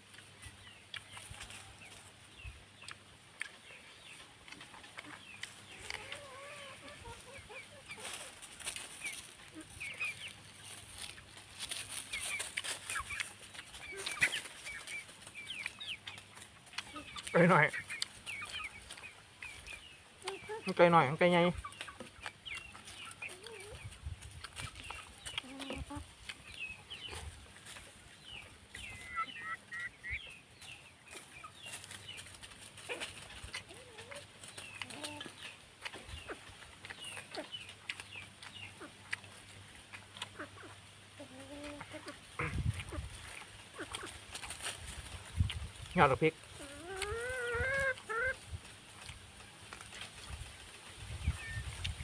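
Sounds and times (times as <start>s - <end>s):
birds chirping: 0.0s - 52.0s
chickens clucking: 0.0s - 52.0s.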